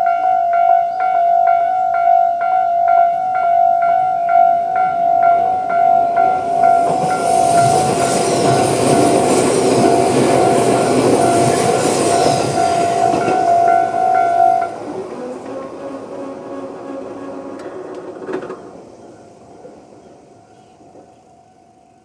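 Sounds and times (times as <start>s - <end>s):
crossing warning bell dinging: 0.0s - 22.0s
train wheel and track noise: 2.9s - 22.0s.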